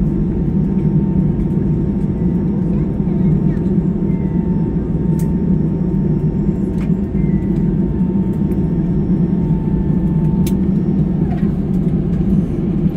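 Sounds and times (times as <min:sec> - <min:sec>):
low aircraft cabin rumble: 0:00.0 - 0:12.9.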